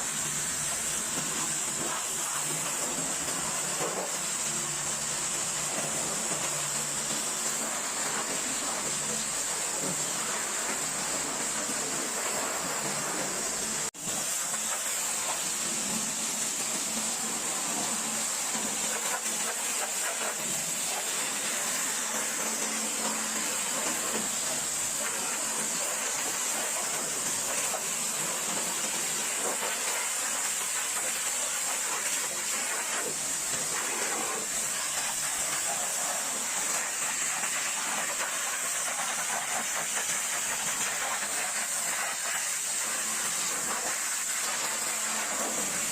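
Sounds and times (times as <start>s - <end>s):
pressure washer spraying: 0.0s - 45.9s.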